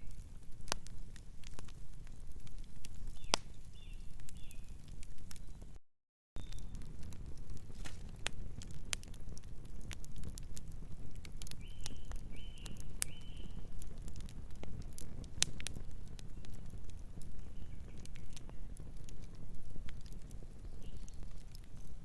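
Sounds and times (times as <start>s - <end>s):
wood fire crackling: 0.0s - 5.8s, 6.4s - 22.0s.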